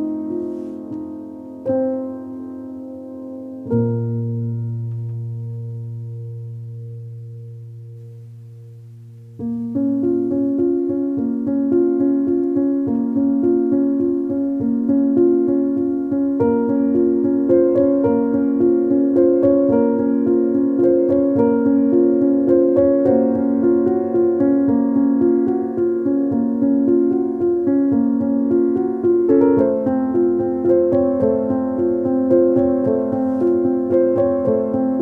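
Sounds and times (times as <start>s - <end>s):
piano chords and broken chords: 0.0s - 35.0s.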